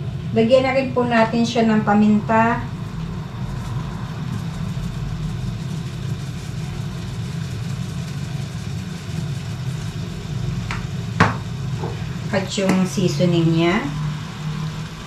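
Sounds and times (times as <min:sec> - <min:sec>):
gas hob humming: 0:00.0 - 0:15.0
pot boiling: 0:00.0 - 0:15.0.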